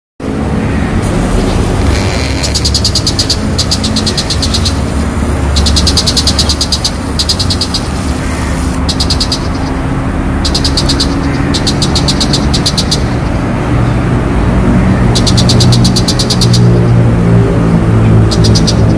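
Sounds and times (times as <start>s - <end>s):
steady low rumble: 0.2s - 18.9s
bird ticking chatter: 1.3s - 13.5s, 14.8s - 17.0s, 18.1s - 18.9s.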